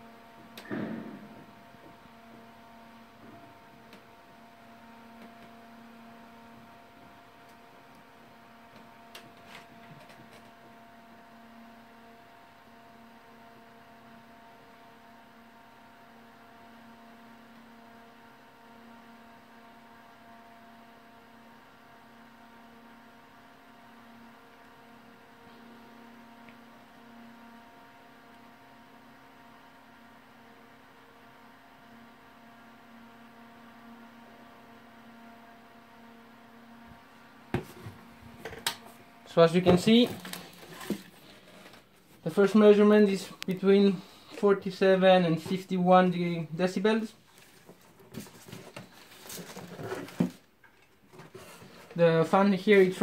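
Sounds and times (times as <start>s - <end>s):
pc fan humming: 0.0s - 53.0s.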